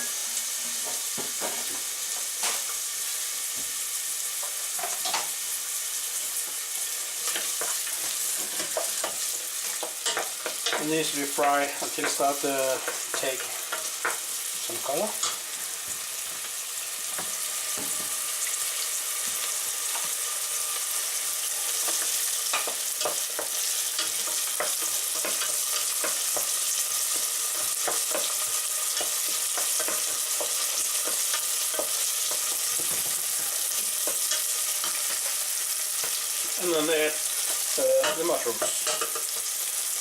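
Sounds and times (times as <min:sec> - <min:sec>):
onion sizzling in hot oil: 0:00.0 - 0:40.0
utensil stirring in pan: 0:06.4 - 0:40.0.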